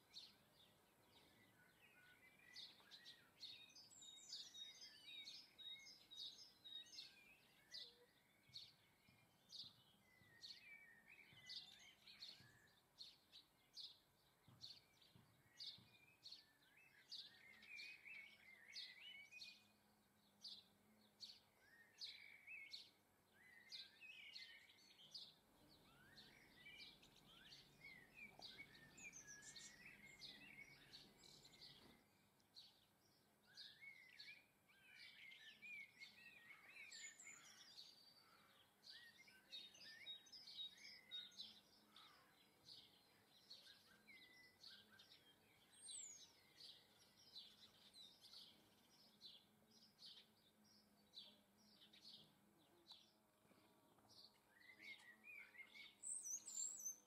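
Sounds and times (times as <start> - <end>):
birds chirping: 0.0 - 57.0
birds twittering: 0.0 - 57.0.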